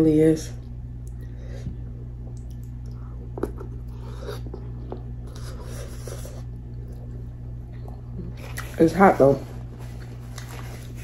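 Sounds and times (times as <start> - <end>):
low hum: 0.0 - 11.0
person chewing wet food: 1.0 - 8.8, 9.9 - 11.0.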